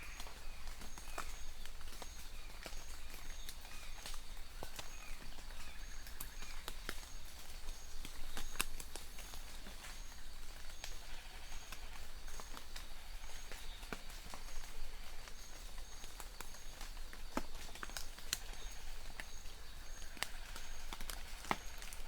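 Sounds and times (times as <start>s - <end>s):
rain: 0.0s - 22.0s.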